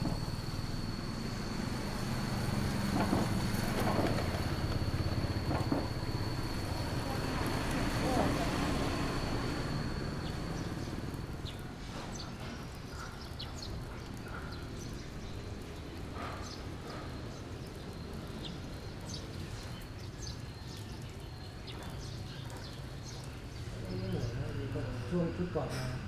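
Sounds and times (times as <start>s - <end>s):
insect drone: 0.0s - 12.8s, 14.8s - 26.0s.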